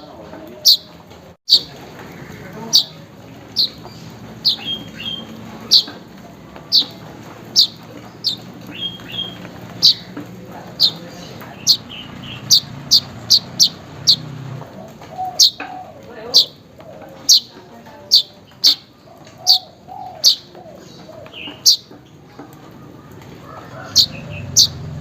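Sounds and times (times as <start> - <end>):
bird chirping: 0.0 - 22.2, 23.6 - 25.0.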